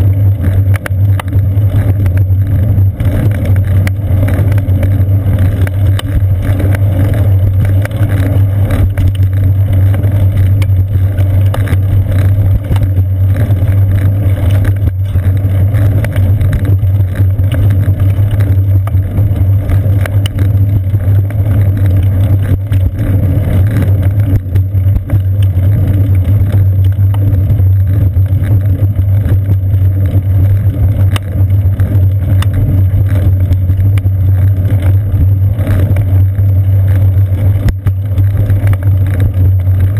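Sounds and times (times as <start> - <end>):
bicycle tyre and road rumble: 0.0 - 39.9
wind on camera: 0.0 - 39.9.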